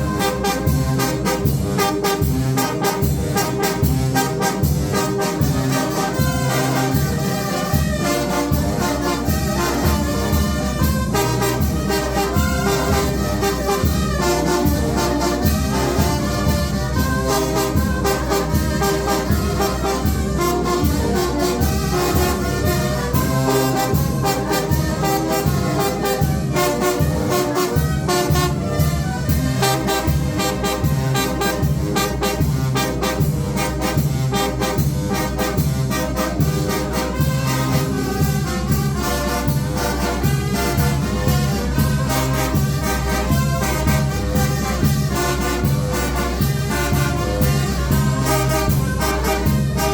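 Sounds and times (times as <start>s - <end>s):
trumpets and trombones: 0.0s - 49.9s.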